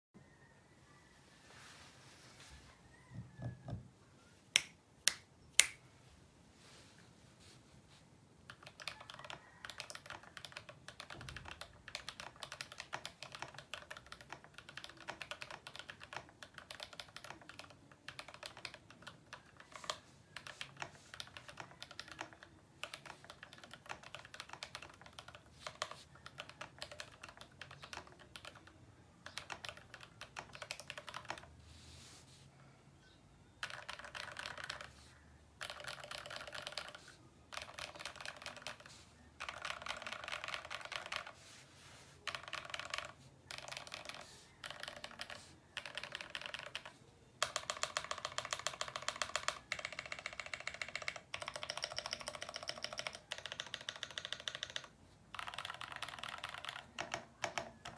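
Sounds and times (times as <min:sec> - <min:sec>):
fast typing on mechanical keyboard: 0:08.5 - 0:31.5, 0:33.6 - 0:41.5, 0:42.2 - 0:57.9.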